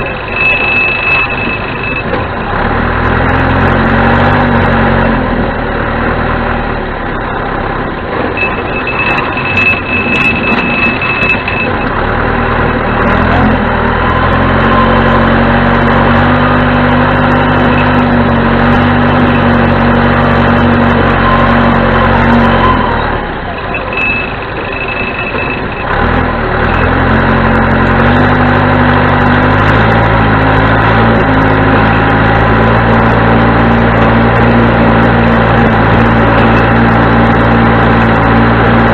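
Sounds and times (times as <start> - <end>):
diesel engine revving: 0.0 - 38.9.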